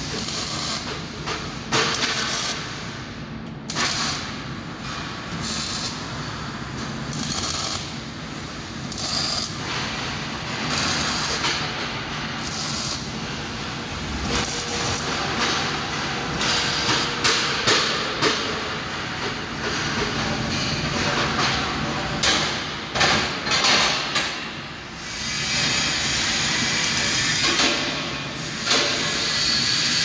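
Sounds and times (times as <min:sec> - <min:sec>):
arc welding crackle and hiss: 0:00.0 - 0:30.0.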